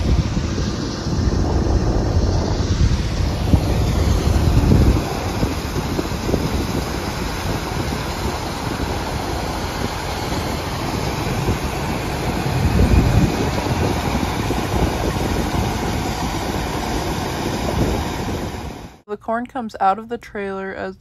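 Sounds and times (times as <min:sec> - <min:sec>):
grinding machinery din: 0:00.0 - 0:18.9
tractor engine running: 0:00.0 - 0:19.0
wind gust on microphone: 0:00.0 - 0:19.0.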